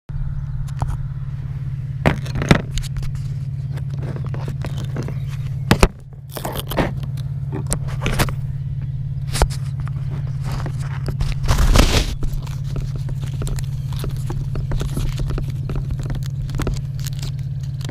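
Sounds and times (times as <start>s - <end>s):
drone motors humming: 0.1s - 17.9s
scrapes and knocks on dirt: 2.0s - 17.9s.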